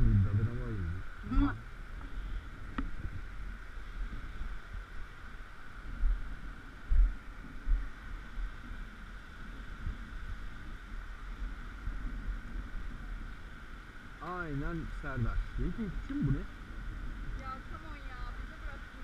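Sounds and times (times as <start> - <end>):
background hiss: 0.0 - 19.0
wind buffeting microphone: 0.0 - 19.0.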